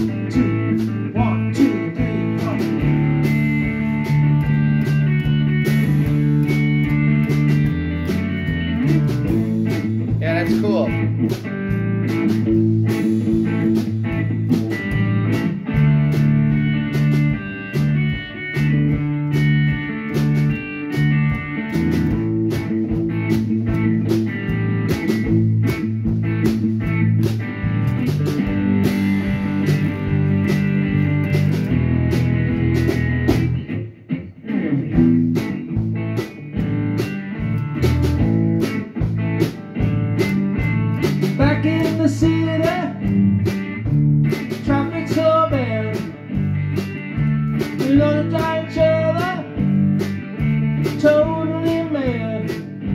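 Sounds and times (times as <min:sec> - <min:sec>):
drum hits: 0:00.0 - 0:33.7, 0:35.0 - 0:51.8
blues-rock band playing: 0:00.0 - 0:52.9
electric bass: 0:00.0 - 0:52.9.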